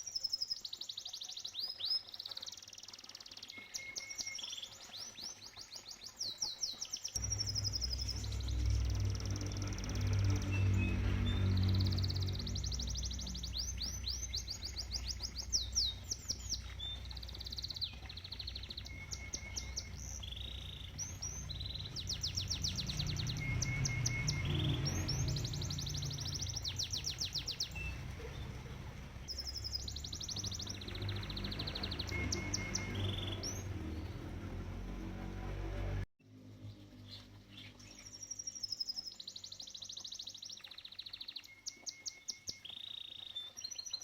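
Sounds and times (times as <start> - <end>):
canary singing trills: 0.0 - 34.7, 37.0 - 44.0
low rumble of pond water: 0.0 - 44.0.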